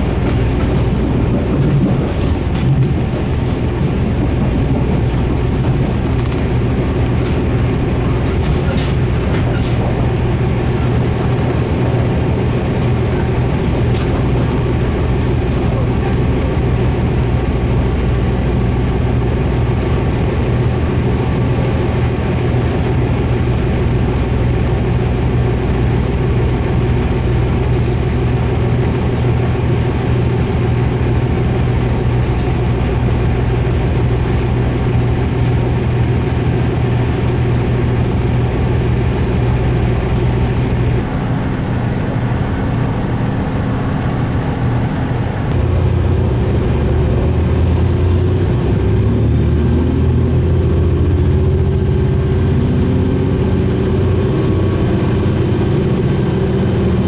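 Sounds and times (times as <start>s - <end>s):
diesel railcar engine humming: 0.0s - 57.0s
train rumbling on rails: 0.0s - 57.0s.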